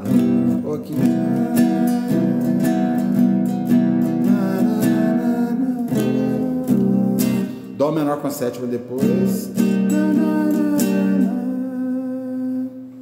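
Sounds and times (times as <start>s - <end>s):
classical guitar strumming: 0.0s - 13.0s.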